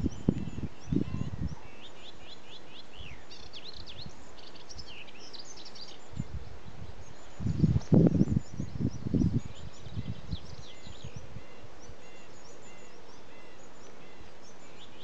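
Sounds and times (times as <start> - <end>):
warbler singing: 0.0 - 15.0.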